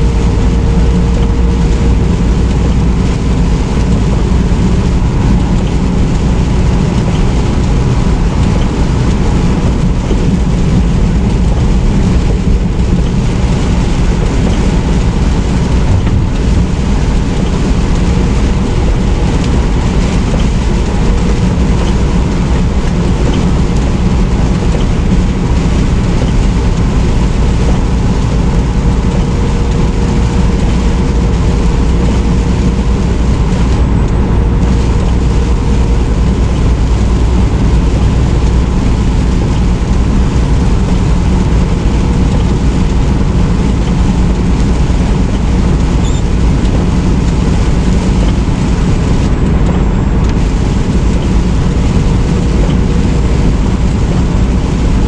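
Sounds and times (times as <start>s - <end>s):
road noise: 0.0s - 55.0s
truck engine drone: 0.0s - 55.0s.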